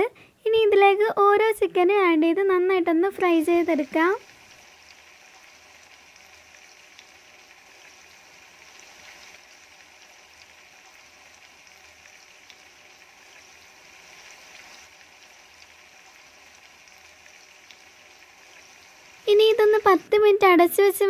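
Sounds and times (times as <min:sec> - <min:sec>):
chicken frying in hot oil: 0:00.8 - 0:21.0
oil crackling: 0:01.6 - 0:20.3.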